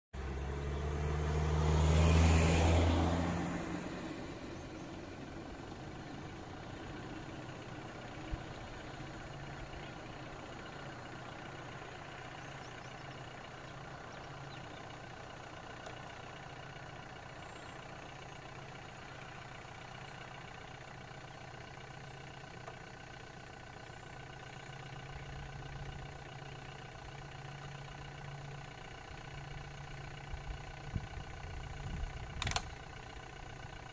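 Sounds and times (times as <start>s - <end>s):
vehicle engine idling: 0.2s - 33.9s.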